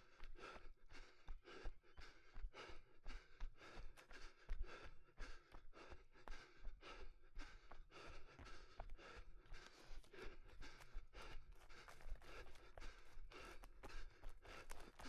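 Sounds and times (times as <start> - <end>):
runner breathing hard: 0.0 - 15.0.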